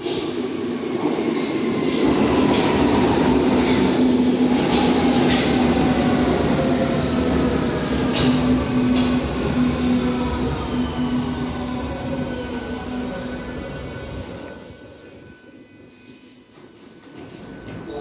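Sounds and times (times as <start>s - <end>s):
train hum with falling whine: 0.0s - 15.7s.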